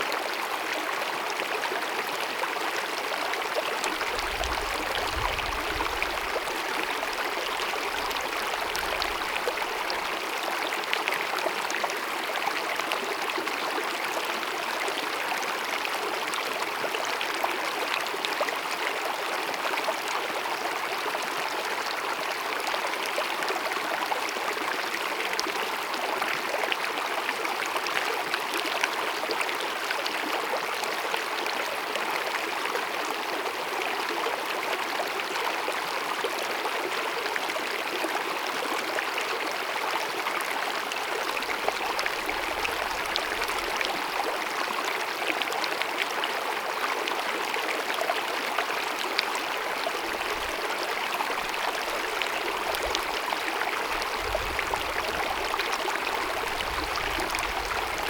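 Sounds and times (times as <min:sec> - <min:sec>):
stream babbling over rocks: 0:00.1 - 0:58.0.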